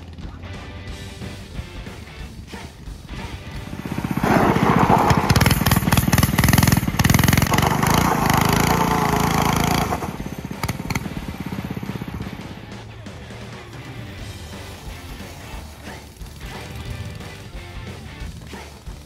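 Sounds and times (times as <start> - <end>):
mini bike engine running: 0.0 - 19.0.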